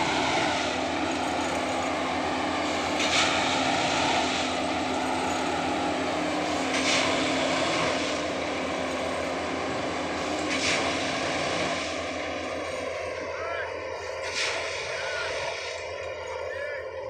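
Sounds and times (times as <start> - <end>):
track tamping machine running: 0.0 - 17.0.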